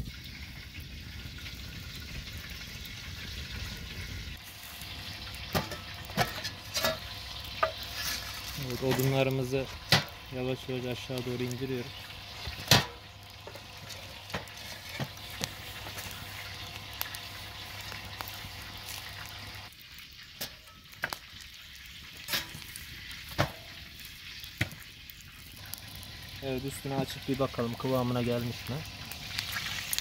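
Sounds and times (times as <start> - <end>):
burning logs popping: 0.0 - 30.0
wood fire crackling: 0.0 - 30.0.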